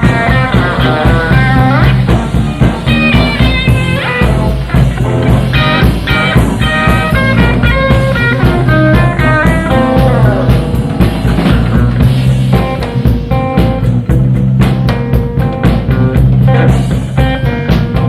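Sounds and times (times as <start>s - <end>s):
bass guitar: 0.0s - 18.0s
drum kit: 0.0s - 18.0s
electric guitar lead line: 0.0s - 18.0s.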